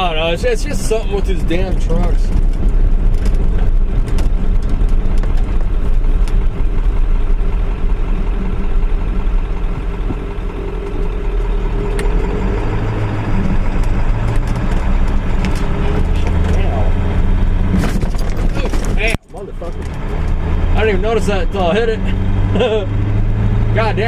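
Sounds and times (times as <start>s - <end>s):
road rumble: 0.0s - 24.0s
truck engine drone: 0.0s - 24.0s.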